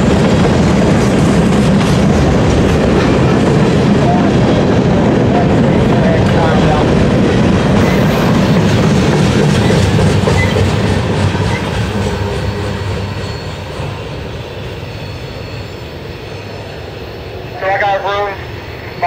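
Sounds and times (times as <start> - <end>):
freight train wheels clicking: 0.0 - 16.5.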